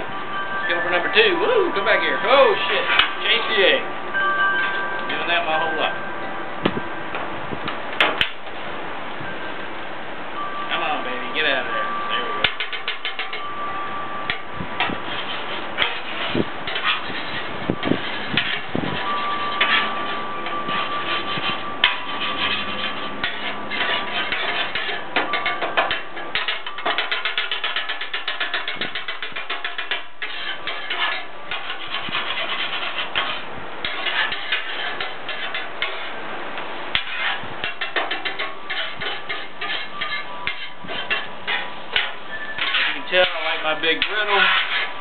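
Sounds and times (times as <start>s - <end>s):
metal spatulas scraping on griddle: 0.7s - 3.8s, 11.4s - 13.6s, 14.3s - 45.0s.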